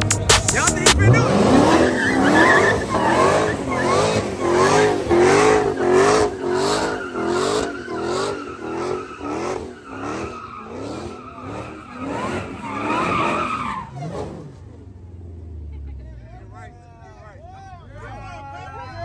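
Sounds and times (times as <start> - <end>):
car tyres squealing: 0.0 - 16.0.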